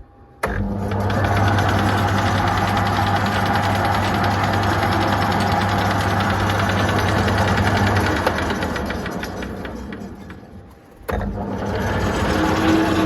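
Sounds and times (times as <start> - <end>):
metal lathe running: 0.8 - 13.0.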